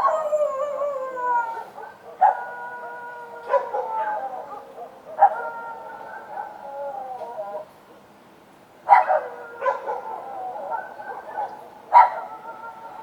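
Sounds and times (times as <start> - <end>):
dogs howling: 0.0 - 7.7, 8.9 - 13.0.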